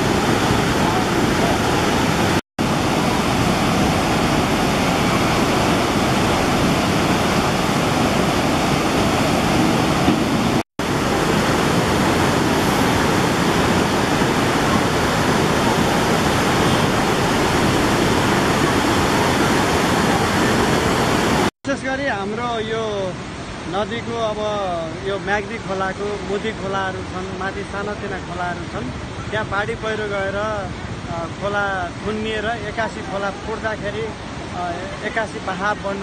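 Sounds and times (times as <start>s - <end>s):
flooded river rushing: 0.0s - 36.0s.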